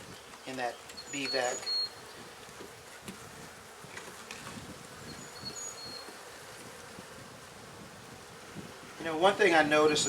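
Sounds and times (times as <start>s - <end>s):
bees buzzing: 0.3s - 10.0s.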